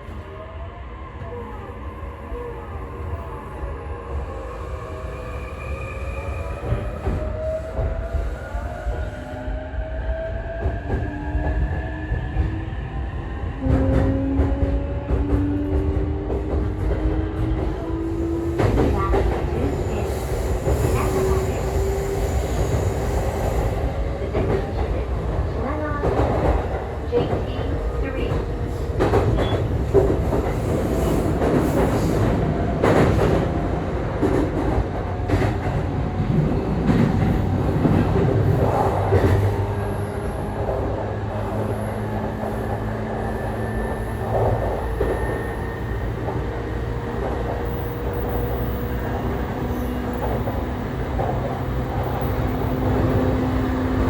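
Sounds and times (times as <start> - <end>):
train rumble: 2.3 - 54.0.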